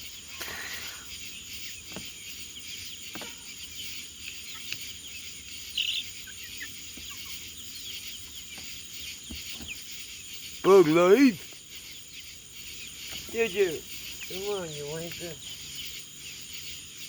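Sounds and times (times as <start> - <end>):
high-pitched insect chorus: 0.0 - 17.0
loud chirp: 0.0 - 17.0.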